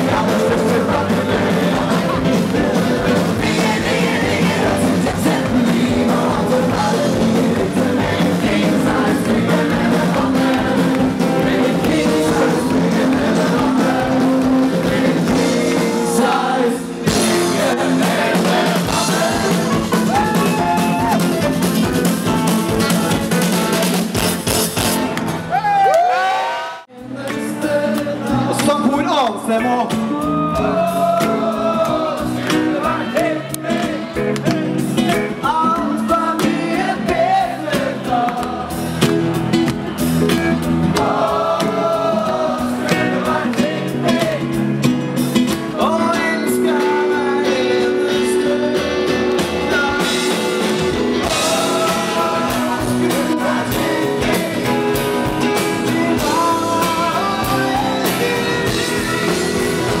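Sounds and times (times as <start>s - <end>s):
person singing lead vocal: 0.0s - 23.4s, 26.9s - 39.2s, 39.9s - 60.0s
audience singing along: 0.0s - 24.1s, 30.5s - 60.0s
live rock band playing: 0.0s - 25.8s, 26.9s - 60.0s.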